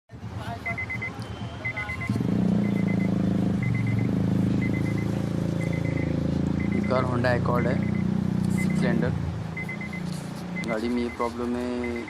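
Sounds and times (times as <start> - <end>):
short beeps: 0.6 - 9.0, 9.6 - 12.0.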